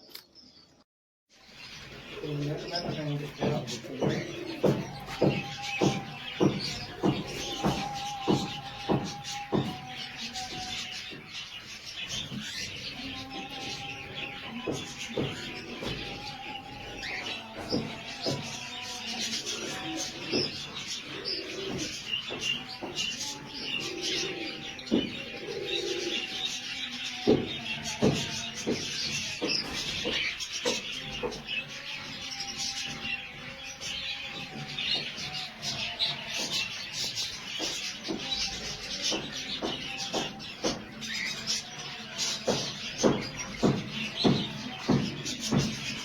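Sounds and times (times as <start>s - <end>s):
birds chirping and calling: 1.4s - 46.0s.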